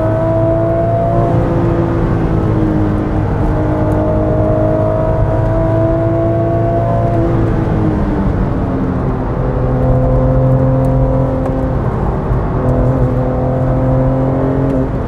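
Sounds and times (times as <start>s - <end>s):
car engine at full throttle: 0.0s - 15.0s
road and wind noise: 0.0s - 15.0s.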